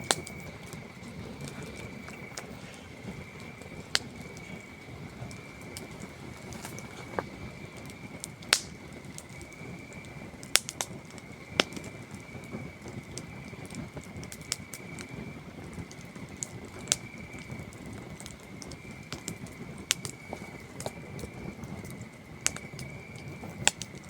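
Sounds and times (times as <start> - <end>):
campfire crackling: 0.0 - 24.0
crickets trilling: 0.0 - 24.0
fire popping: 0.0 - 24.0.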